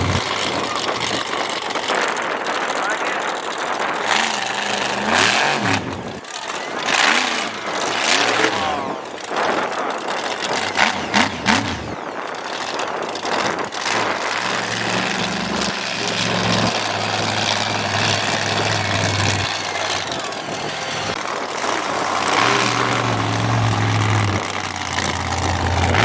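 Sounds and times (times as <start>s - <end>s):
truck engine revving and idling: 0.0s - 26.0s.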